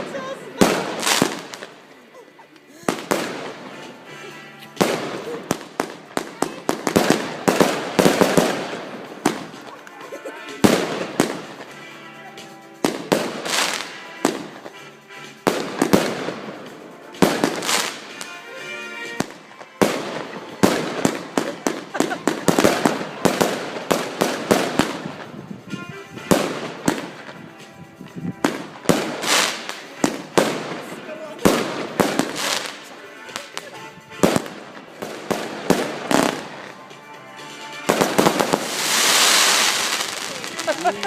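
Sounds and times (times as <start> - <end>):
fireworks bursting with crackles: 0.0 - 41.0.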